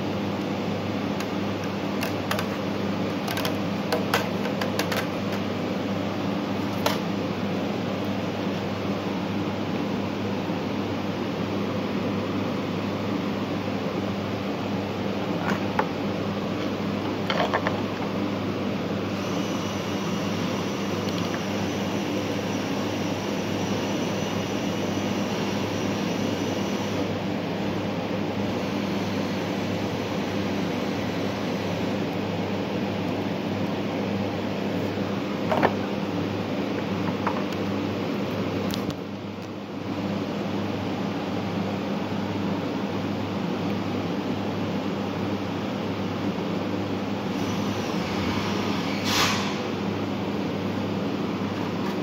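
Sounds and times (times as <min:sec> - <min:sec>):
fan-like hum: 0:00.0 - 0:52.0.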